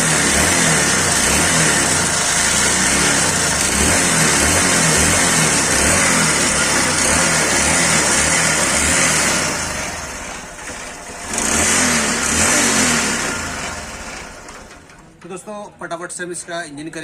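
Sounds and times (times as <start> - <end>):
motorcycle engine revving: 0.0 - 15.1.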